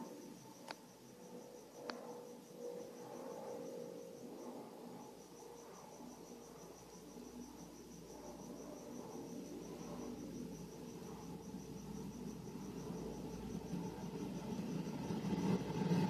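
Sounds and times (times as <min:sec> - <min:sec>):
cricket chirping: 0:00.0 - 0:16.0
low background rumble: 0:00.0 - 0:16.0.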